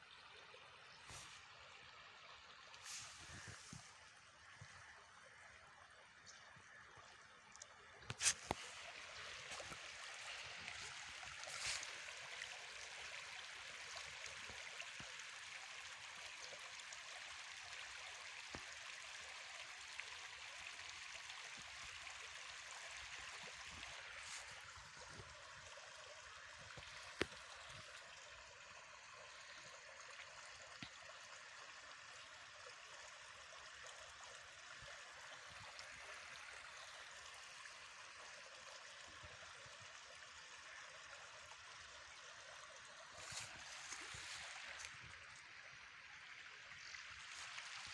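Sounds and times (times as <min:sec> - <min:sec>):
stream running over stones: 0:00.0 - 0:47.9.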